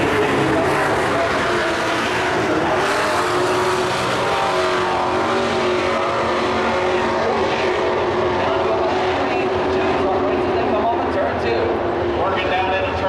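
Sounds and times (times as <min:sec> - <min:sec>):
race truck engines droning: 0:00.0 - 0:13.0.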